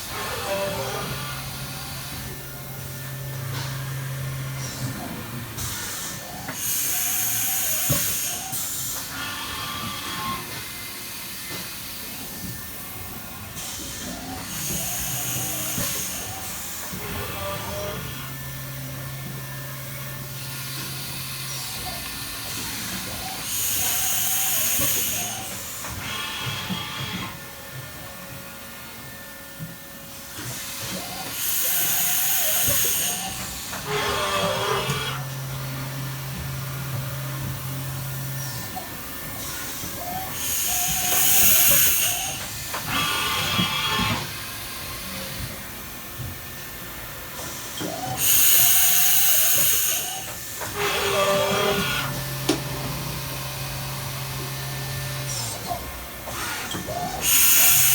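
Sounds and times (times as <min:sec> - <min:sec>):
machining center hiss and hum: 0:00.0 - 0:57.9.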